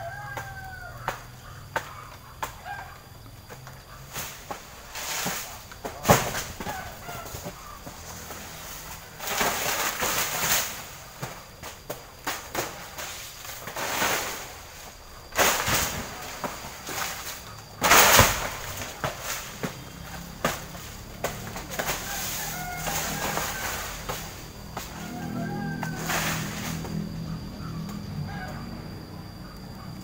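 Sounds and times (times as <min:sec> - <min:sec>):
palm fronds rustling and crackling: 0:00.0 - 0:30.0.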